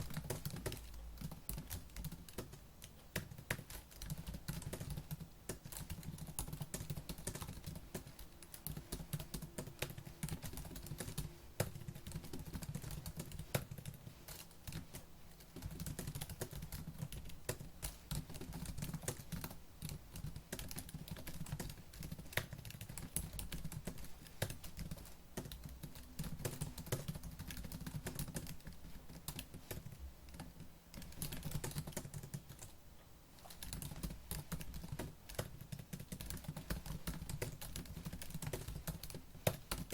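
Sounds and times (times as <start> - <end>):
fast typing on laptop keyboard: 0.0 - 32.8, 33.4 - 39.9.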